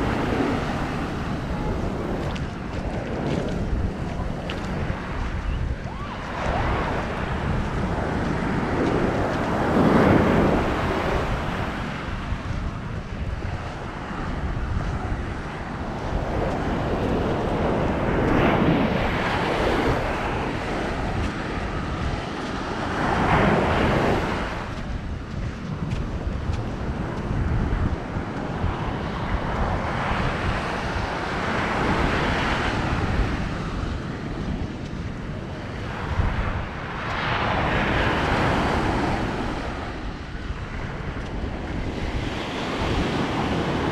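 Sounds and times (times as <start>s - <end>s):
ocean surf breaking: 0.0s - 25.0s, 28.0s - 43.9s
wind buffeting microphone: 0.0s - 43.9s.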